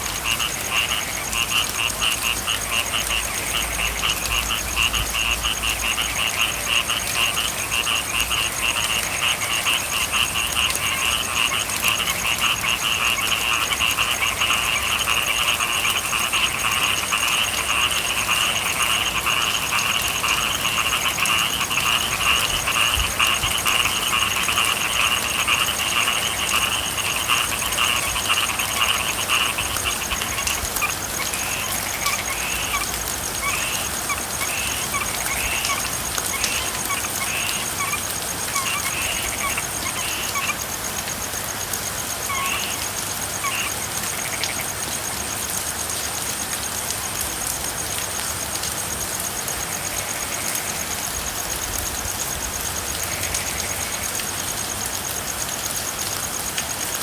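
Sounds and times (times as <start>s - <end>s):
frogs trilling: 0.0s - 57.0s
rain patter: 0.0s - 57.0s.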